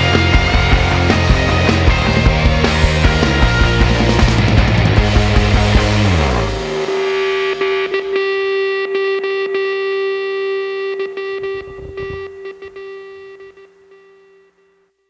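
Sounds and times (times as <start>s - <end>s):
distorted electric guitar chord ringing: 0.0s - 14.8s.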